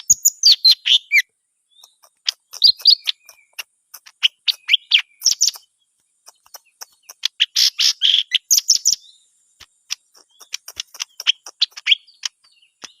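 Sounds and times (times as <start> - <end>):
bird singing chirps and whistles: 0.0 - 9.3, 9.9 - 13.0.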